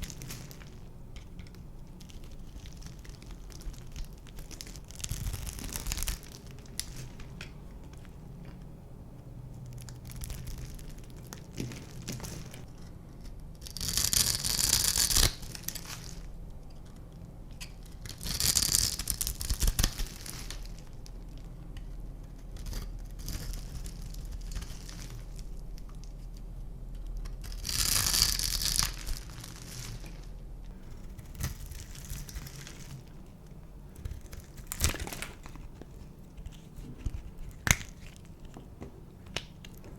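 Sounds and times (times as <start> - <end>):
dry soap crunching: 0.0 - 8.8, 9.5 - 39.9.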